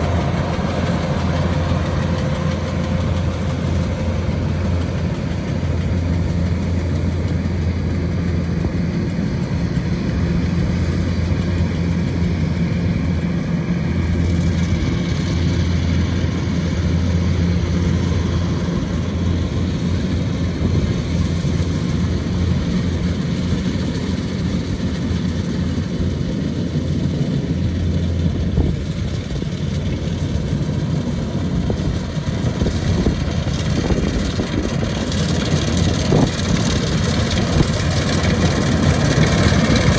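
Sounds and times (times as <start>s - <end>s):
diesel engine running deep hum: 0.0s - 39.9s.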